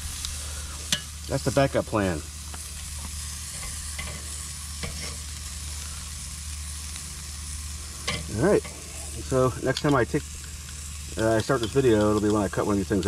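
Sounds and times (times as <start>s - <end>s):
meat sizzling on grill: 0.0s - 13.0s
steady low hum: 0.0s - 13.0s.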